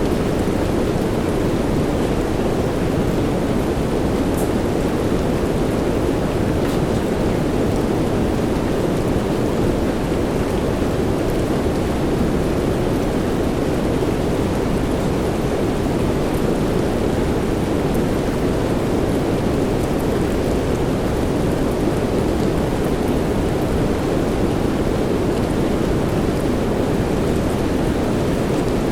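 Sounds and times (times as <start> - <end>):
steady soft rain: 0.0 - 28.9.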